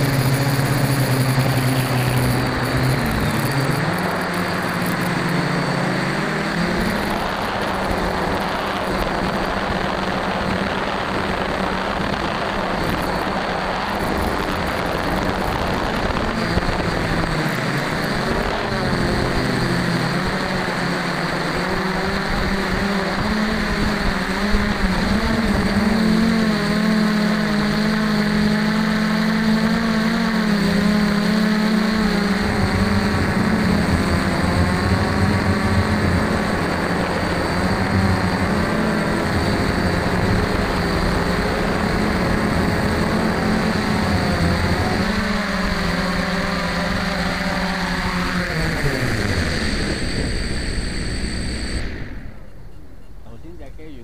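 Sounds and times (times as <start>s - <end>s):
deeper hum tone: 0.0s - 54.0s
drone motors and propellers: 0.0s - 54.0s.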